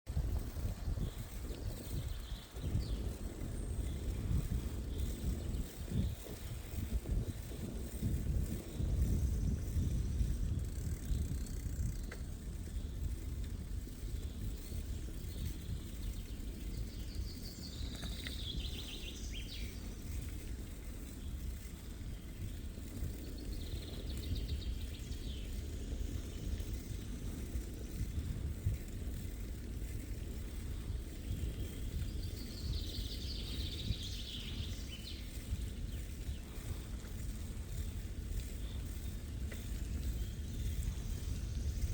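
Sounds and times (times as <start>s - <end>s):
bicycle riding rumble: 0.0s - 41.9s
songbird singing: 0.2s - 41.9s.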